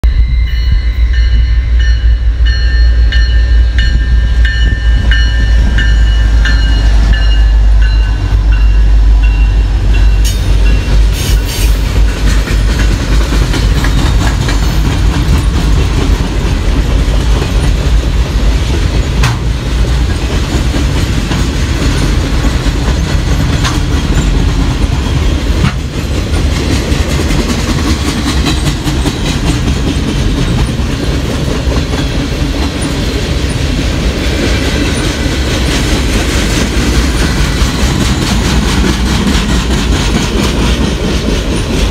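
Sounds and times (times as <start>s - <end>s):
diesel locomotives rumbling: 0.0s - 41.9s
train cars clanking: 0.0s - 41.9s
train wheels clickety-clack: 3.2s - 41.9s.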